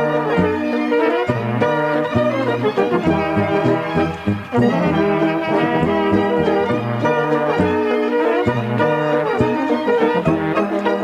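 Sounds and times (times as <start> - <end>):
brass band playing a waltz: 0.0 - 11.0.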